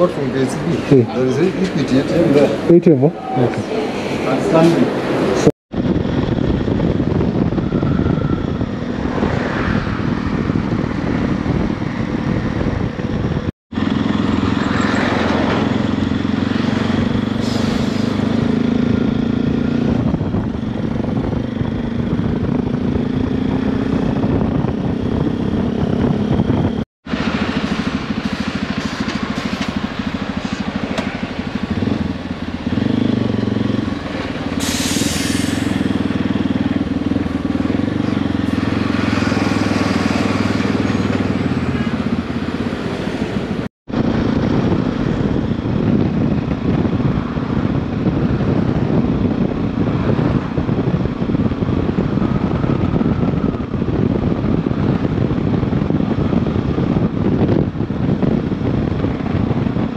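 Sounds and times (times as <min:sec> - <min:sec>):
wind and road noise: 0:00.0 - 0:59.9
motorcycle engine running: 0:10.0 - 0:17.4, 0:18.1 - 0:34.6, 0:35.5 - 0:59.9.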